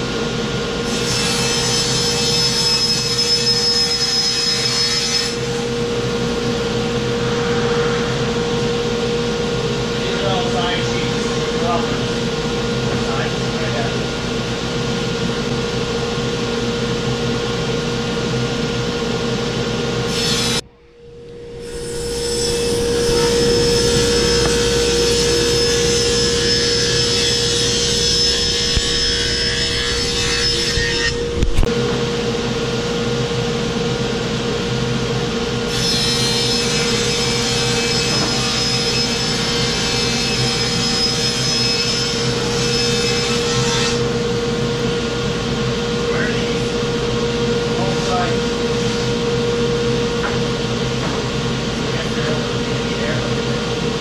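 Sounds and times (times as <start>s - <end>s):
table saw humming: 0.0s - 33.1s, 35.4s - 54.0s.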